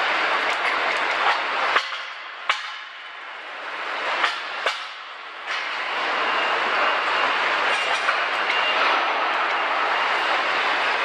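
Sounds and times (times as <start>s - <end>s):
loud machine hiss and rumble: 0.0s - 11.0s
quiet machine noise: 0.0s - 11.0s.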